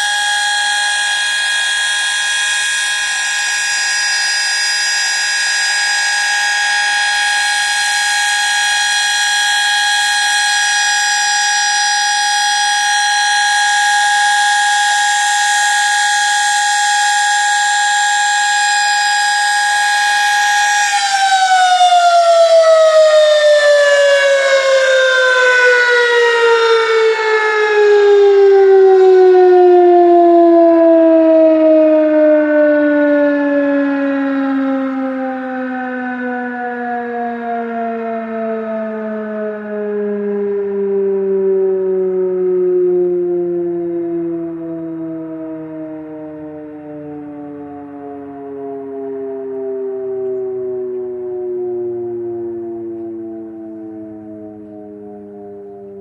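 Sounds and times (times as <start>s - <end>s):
siren wailing and winding down: 0.0s - 56.0s.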